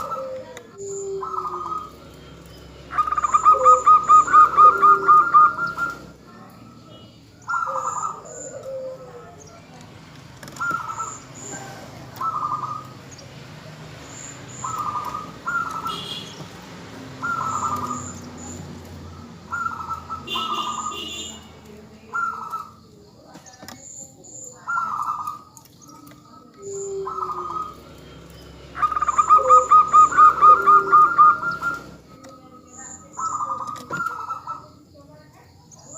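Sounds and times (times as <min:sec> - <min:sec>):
dove trilled cooing: 0:00.0 - 0:09.6, 0:10.4 - 0:13.0, 0:14.0 - 0:16.4, 0:17.1 - 0:21.3, 0:22.0 - 0:22.8, 0:23.7 - 0:34.9
small birds chirping: 0:00.0 - 0:35.9.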